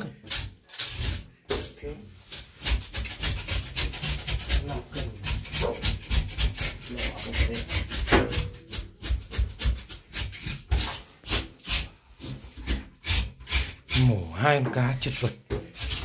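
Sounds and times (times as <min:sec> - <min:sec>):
knife scraping fish: 0:00.0 - 0:01.3, 0:02.1 - 0:16.0.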